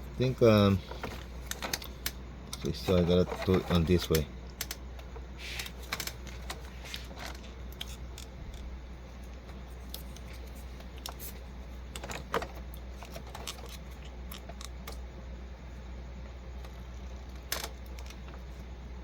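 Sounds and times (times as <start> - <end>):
steady low hum: 0.0 - 19.0
plastic parts clicking and rustling: 0.3 - 8.7, 9.3 - 15.0, 16.6 - 18.5.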